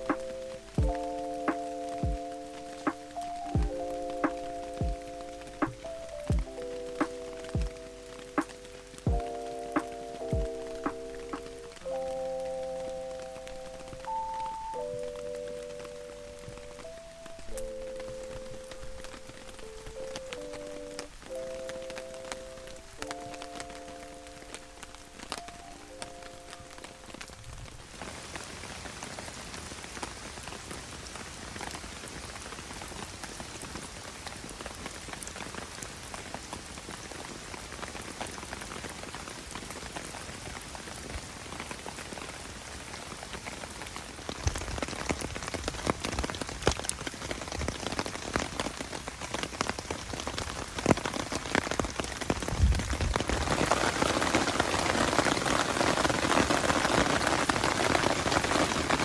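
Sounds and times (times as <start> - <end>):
heavy rain pattering on tarp: 0.0 - 59.0.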